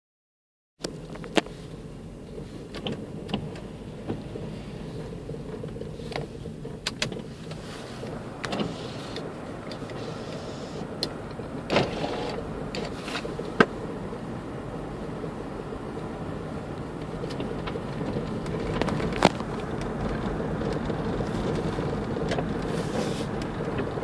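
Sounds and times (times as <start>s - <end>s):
engine and tyres droning: 0.8s - 24.0s.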